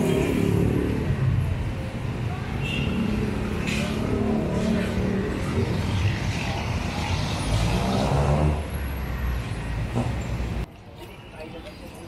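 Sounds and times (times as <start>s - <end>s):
road noise: 0.0s - 12.0s
traffic engines rumbling: 0.0s - 12.0s.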